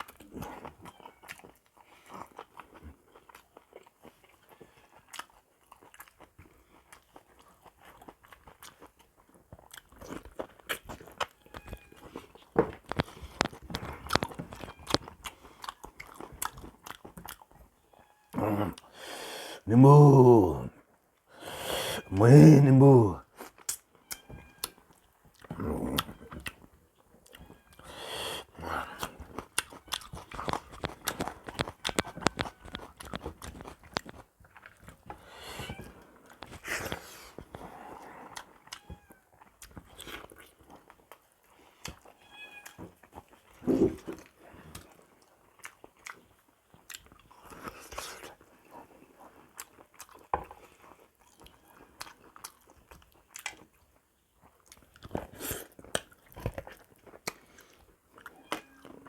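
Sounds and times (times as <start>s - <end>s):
person chewing and biting food: 0.0s - 17.7s, 21.4s - 59.0s.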